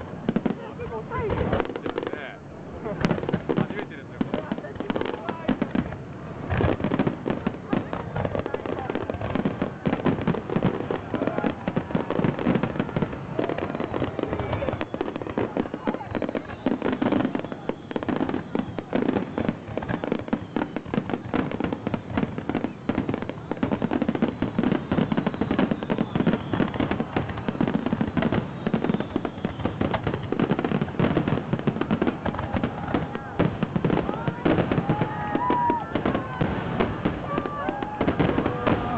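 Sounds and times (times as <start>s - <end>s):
fireworks bursting with crackle: 0.0s - 38.9s.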